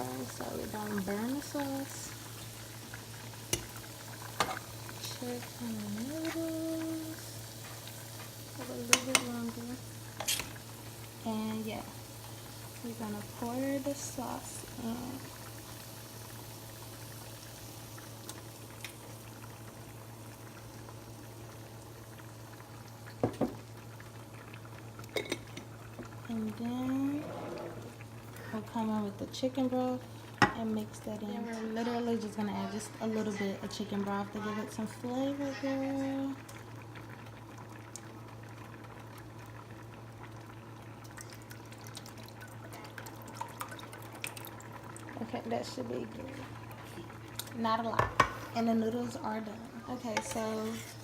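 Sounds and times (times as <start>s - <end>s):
broth pouring into a pan: 0.0s - 51.0s
food bubbling in pots: 0.0s - 51.0s.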